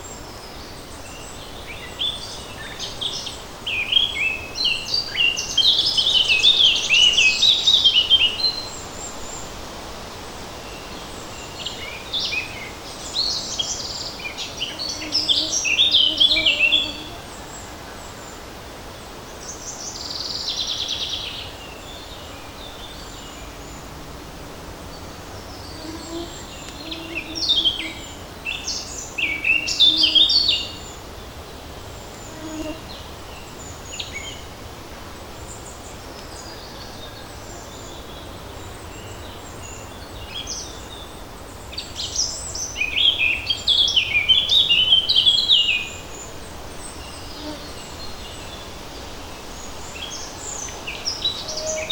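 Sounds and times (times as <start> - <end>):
light breeze in trees: 0.0 - 51.9
songbirds twittering: 0.0 - 51.9.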